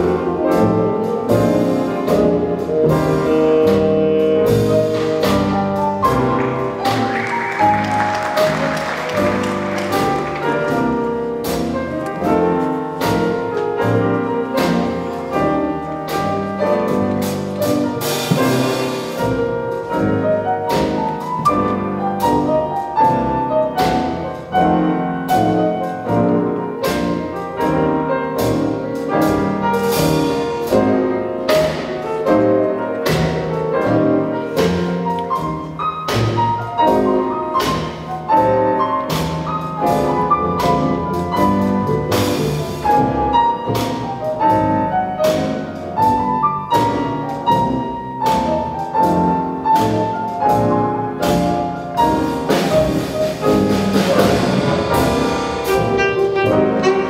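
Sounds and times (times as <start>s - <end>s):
drum kit with cymbals: 0.0s - 57.0s
piano: 0.0s - 57.0s
upright bass: 0.0s - 57.0s.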